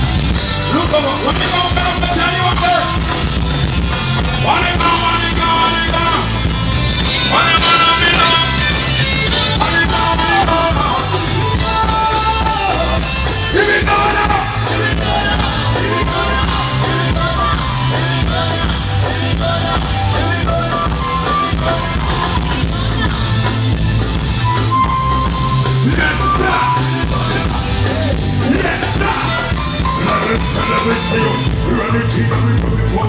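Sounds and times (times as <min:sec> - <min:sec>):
drums: 0:00.0 - 0:33.0
live band over pa: 0:00.0 - 0:33.0
pulsing bass line: 0:00.0 - 0:33.0
person singing: 0:04.3 - 0:33.0.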